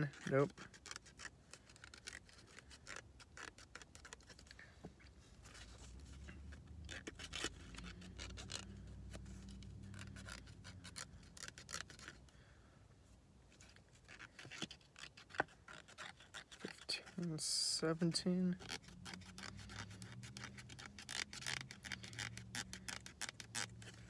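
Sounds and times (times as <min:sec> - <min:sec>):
scratching lottery ticket: 0:00.0 - 0:04.6, 0:05.4 - 0:12.2, 0:13.6 - 0:24.0.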